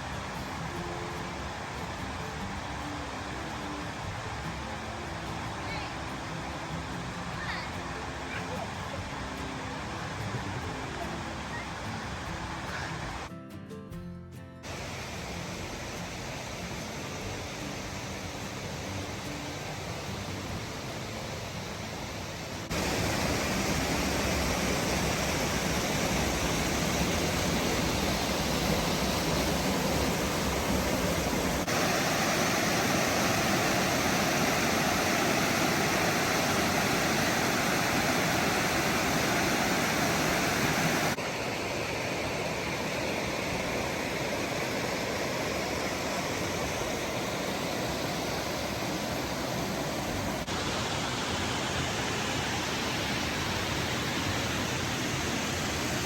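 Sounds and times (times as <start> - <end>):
fast-flowing water rushing: 0.0 - 13.3, 14.6 - 56.0.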